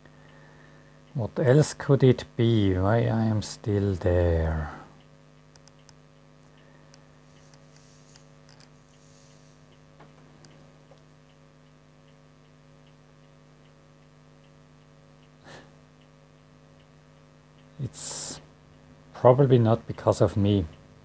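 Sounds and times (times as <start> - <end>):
faint mains hum: 0.0 - 21.0
light regular ticking: 0.0 - 21.0.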